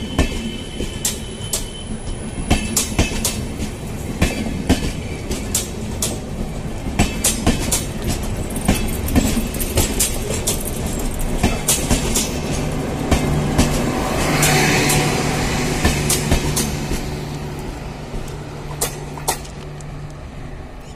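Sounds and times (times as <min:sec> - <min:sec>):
train wheels clacking over rail joints: 0:00.1 - 0:19.8.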